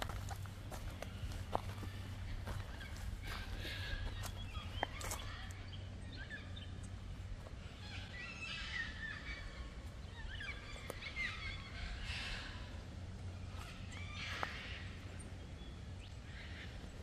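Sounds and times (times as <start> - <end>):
forest birds chirping: 0.0 - 17.0.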